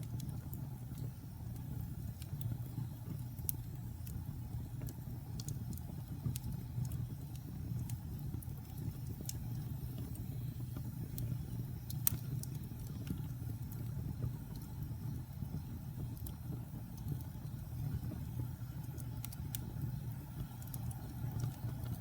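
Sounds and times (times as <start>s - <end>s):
logs crackling and popping: 0.0s - 22.0s
wood fire rumbling: 0.0s - 22.0s.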